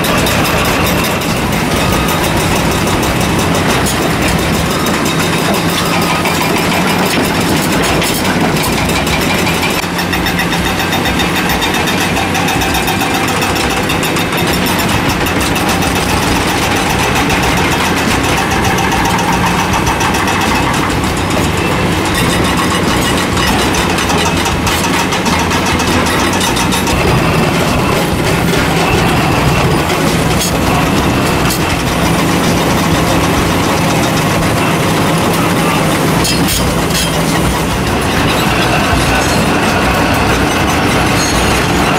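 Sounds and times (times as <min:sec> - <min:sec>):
excavator engine running: 0:00.0 - 0:41.9
rattle of rapid rock impacts: 0:00.0 - 0:41.9.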